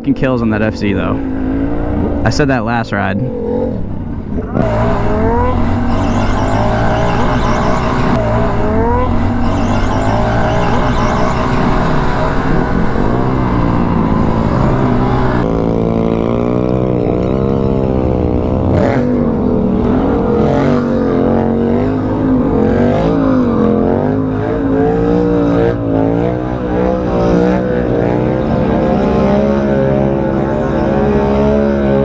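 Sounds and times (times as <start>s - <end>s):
vehicle engine revving: 0.2s - 32.0s.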